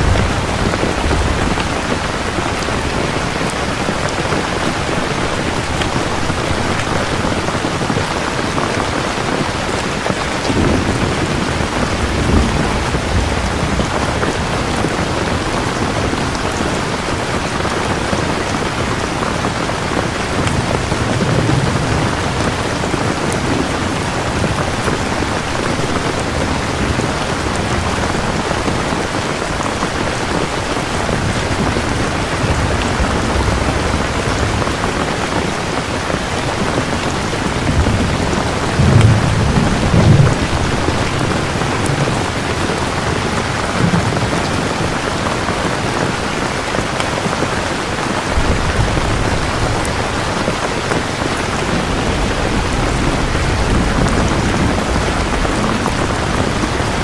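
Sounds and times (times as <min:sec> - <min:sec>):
rolling thunder: 0:00.0 - 0:46.8, 0:48.2 - 0:57.0
heavy rain: 0:00.0 - 0:57.0.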